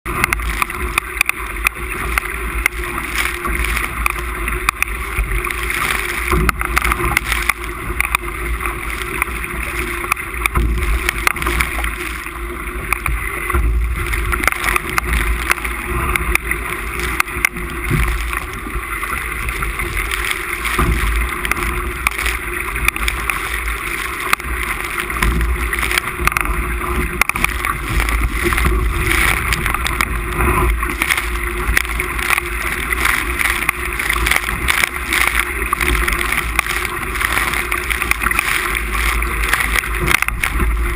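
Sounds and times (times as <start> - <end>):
water rushing past hull: 0.1 - 40.9
wind buffeting microphone: 0.1 - 40.9.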